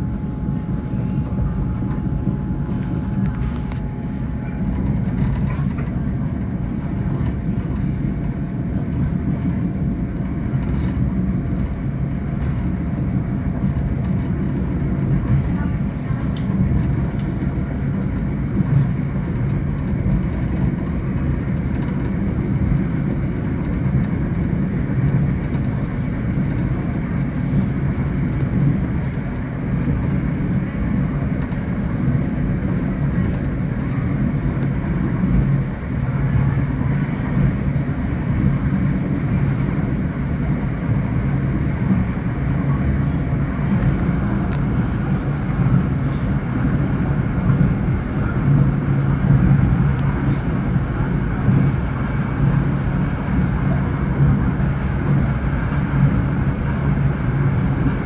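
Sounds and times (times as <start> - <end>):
train rumbling along rails: 0.0 - 58.0.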